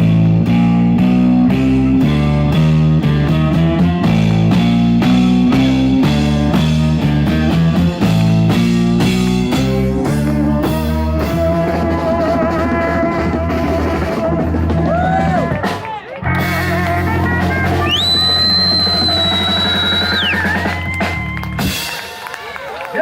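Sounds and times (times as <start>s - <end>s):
blues rock band playing: 0.0s - 22.4s.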